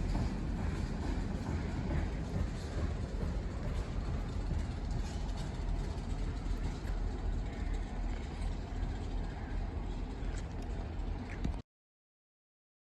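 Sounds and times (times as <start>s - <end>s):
passing train rumble: 0.0s - 11.6s.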